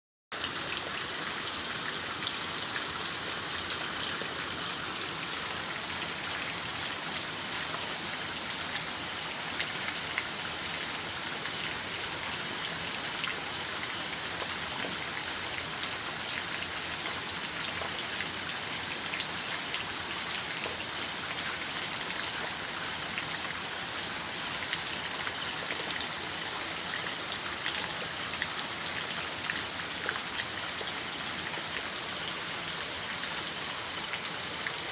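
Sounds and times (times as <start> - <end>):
steady rain: 0.3 - 34.9.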